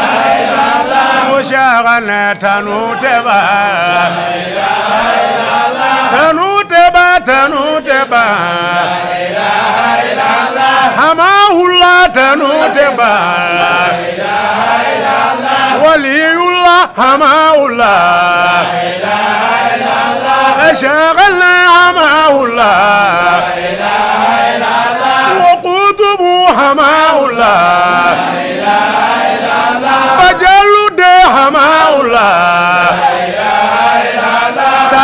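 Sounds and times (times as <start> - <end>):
man chanting: 0.6 - 28.4, 29.7 - 35.0.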